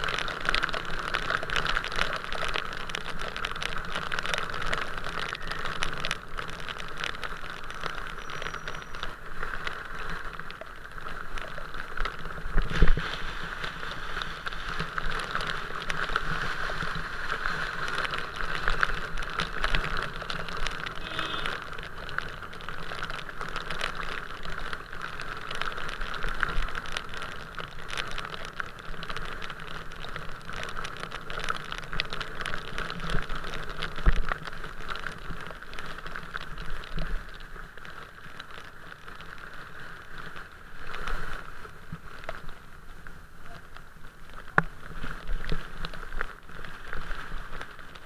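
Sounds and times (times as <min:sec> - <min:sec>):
rain drops ticking on camera: 0:00.0 - 0:48.0
steady rain: 0:00.0 - 0:48.0.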